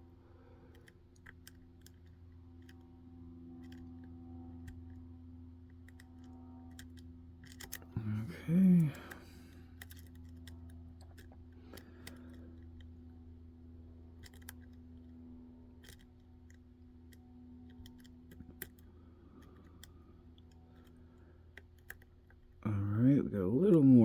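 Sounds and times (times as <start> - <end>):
lock pick clicking and scraping: 0.7 - 8.0, 9.7 - 22.6.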